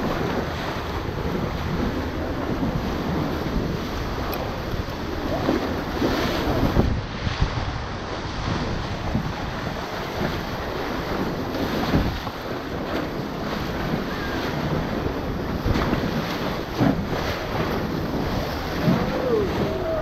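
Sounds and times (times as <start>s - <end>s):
water splashing against raft: 0.0s - 20.0s
whitewater rapids rushing: 0.0s - 20.0s
wind buffeting microphone: 0.0s - 20.0s.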